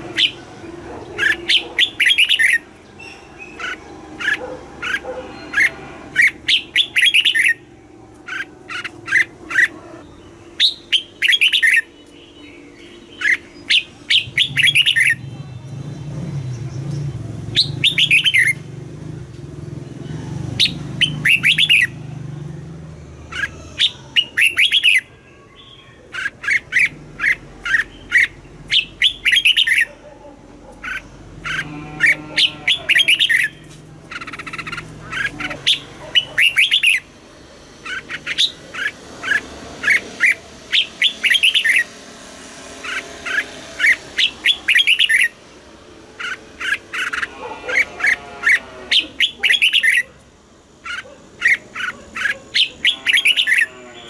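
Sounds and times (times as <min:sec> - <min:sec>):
bird singing chirping phrases: 0:00.0 - 0:54.0.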